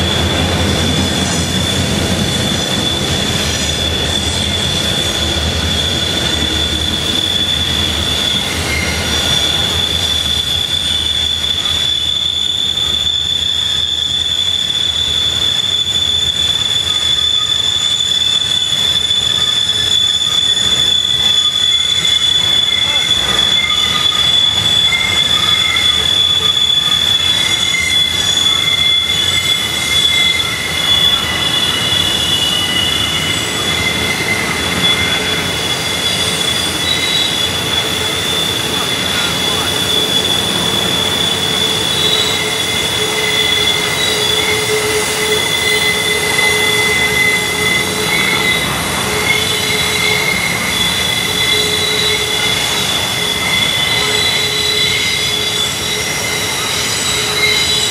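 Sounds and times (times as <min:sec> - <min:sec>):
rumble of rolling train cars: 0:00.0 - 0:57.9
train wheels squealing: 0:00.0 - 0:57.9.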